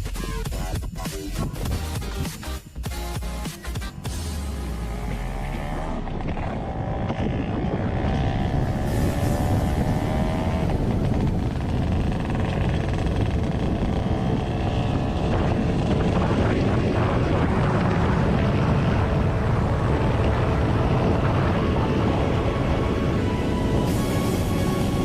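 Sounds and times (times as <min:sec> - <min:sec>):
wind and road noise: 0:01.3 - 0:25.0
motor scooter engine running: 0:03.9 - 0:25.0.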